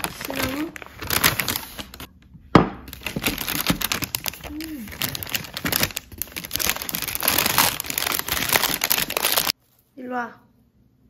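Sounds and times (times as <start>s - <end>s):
paper wrapping crinkling: 0.0s - 2.1s, 2.9s - 9.9s.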